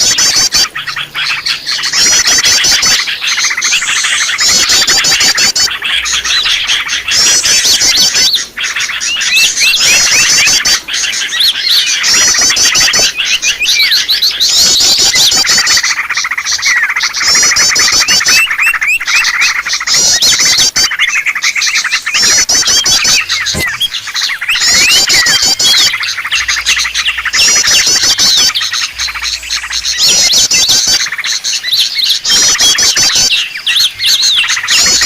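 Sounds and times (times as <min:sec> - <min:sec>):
songbirds chirping chorus: 0:00.0 - 0:35.0.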